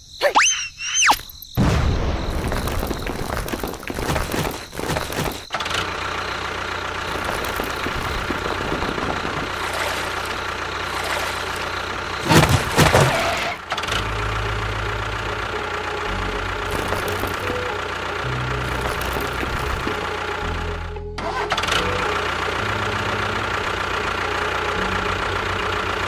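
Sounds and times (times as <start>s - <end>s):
miniature construction vehicle engine: 2.6s - 26.0s.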